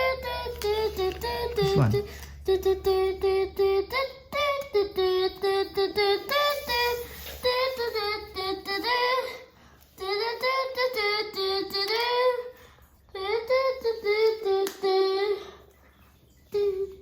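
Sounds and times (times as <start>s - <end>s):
child singing: 0.0s - 15.7s, 16.5s - 17.0s.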